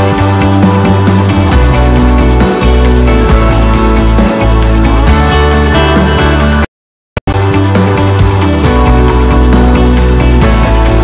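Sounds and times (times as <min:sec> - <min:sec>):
background music: 0:00.0 - 0:06.7, 0:07.3 - 0:11.0.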